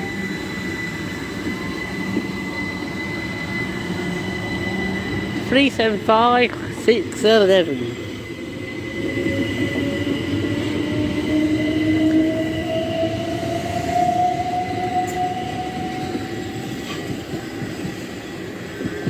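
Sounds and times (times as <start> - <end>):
train motors whining: 0.0 - 19.0
train rumbling on track: 0.0 - 19.0.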